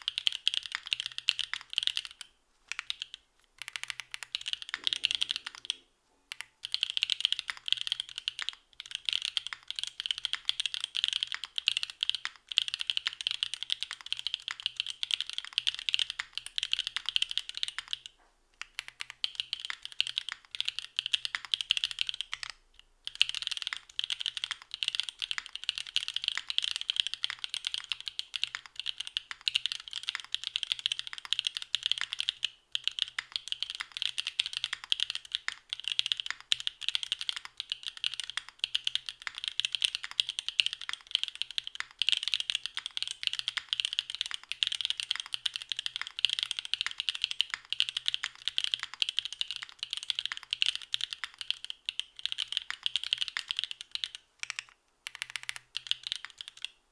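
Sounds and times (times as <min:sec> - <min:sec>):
mechanical keyboard typing: 0:00.0 - 0:56.8.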